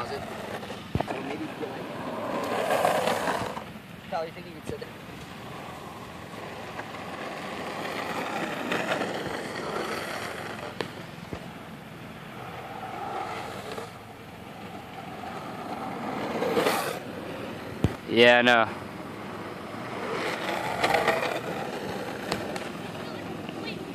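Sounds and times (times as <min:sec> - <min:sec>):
skateboard wheels rolling on asphalt: 0:00.0 - 0:23.9.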